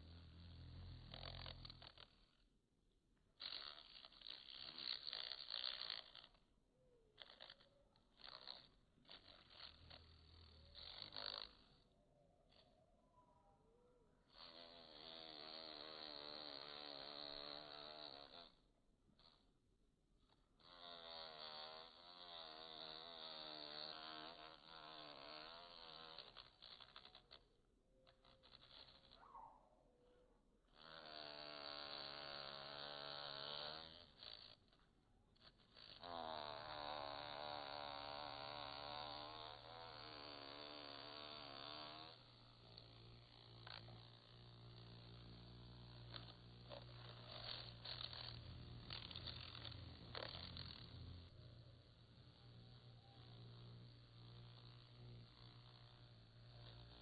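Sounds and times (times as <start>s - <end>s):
bee wingbeat buzz: 0.0s - 2.4s, 3.4s - 6.5s, 7.1s - 12.8s, 14.2s - 19.4s, 20.4s - 29.8s, 30.7s - 34.8s, 35.4s - 57.0s
bee scrabbling in flower: 0.0s - 2.5s, 3.4s - 12.9s, 14.3s - 18.6s, 20.6s - 29.6s, 30.8s - 34.8s, 35.4s - 57.0s.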